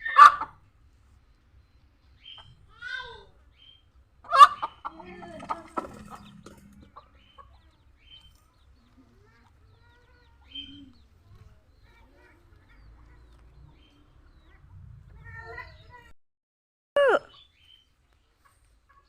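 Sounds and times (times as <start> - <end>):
chickens clucking and calling: 0.0 - 16.0, 17.2 - 19.0.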